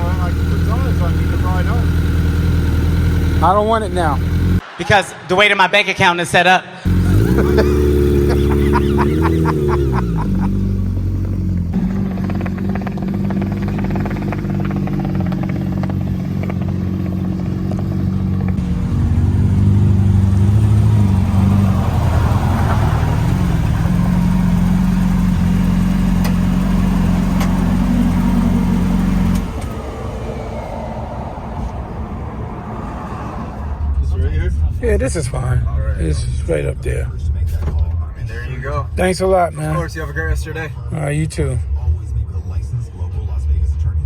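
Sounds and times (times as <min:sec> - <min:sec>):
vehicle engine running: 0:00.0 - 0:04.6, 0:06.9 - 0:44.0.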